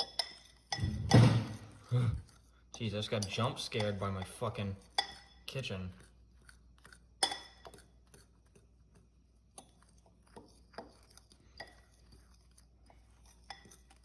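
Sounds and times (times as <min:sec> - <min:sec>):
utensil clinking against bowl: 0:00.0 - 0:08.6, 0:09.5 - 0:14.0.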